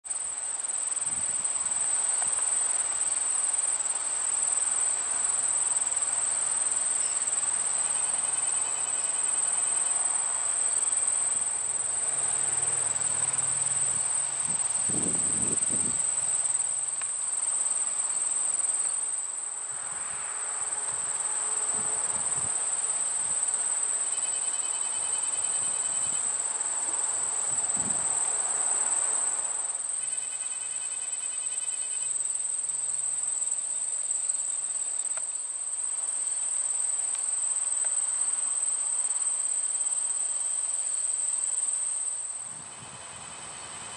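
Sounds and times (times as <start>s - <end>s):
insects trilling: 0.1s - 43.9s.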